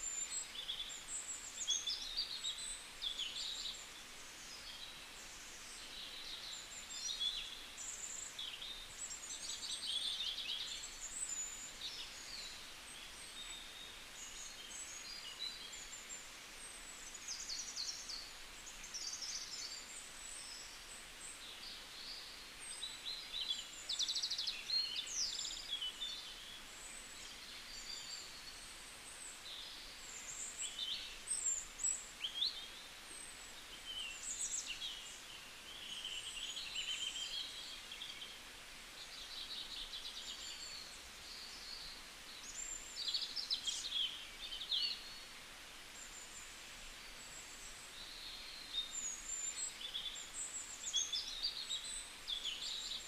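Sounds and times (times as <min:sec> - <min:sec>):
small birds chirping and twittering: 0:00.0 - 0:53.0
steady hiss: 0:00.0 - 0:53.0.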